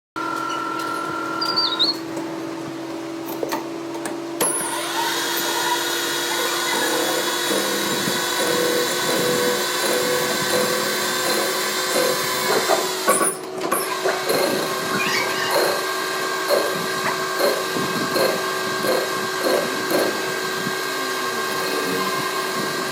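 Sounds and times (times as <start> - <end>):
electric power tool motor running: 3.2 - 22.9.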